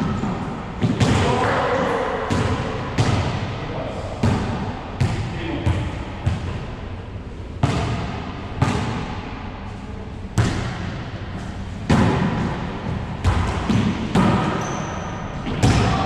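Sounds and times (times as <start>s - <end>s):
ball smacks echoing in a court: 0.0s - 6.7s, 7.6s - 9.5s, 10.3s - 16.0s.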